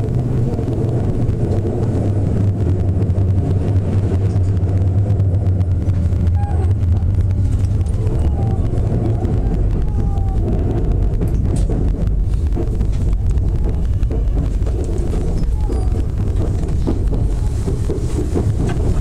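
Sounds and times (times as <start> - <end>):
faint falling whines: 0.0 - 18.8
train wheels rumbling on rails: 0.0 - 19.0.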